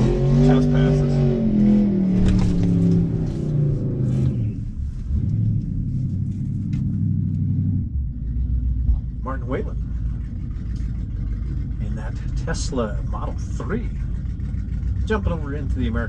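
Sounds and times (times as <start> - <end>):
car engine at high revs: 0.0 - 16.0
low rumble: 0.0 - 16.0.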